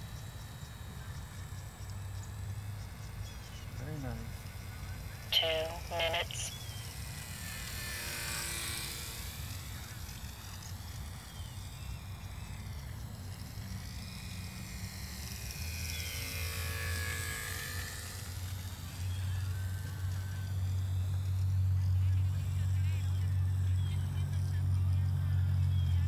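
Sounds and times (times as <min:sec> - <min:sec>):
model airplane motor whining: 0:00.0 - 0:26.0.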